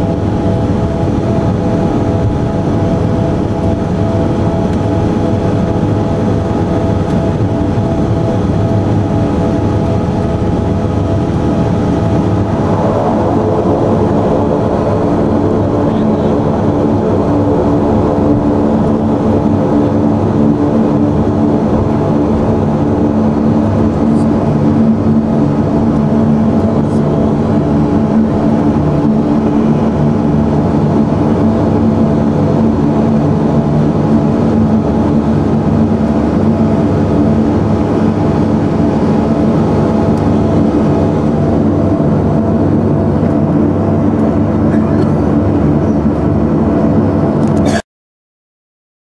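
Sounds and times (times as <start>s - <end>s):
airliner engines droning in cabin: 0.0s - 47.8s.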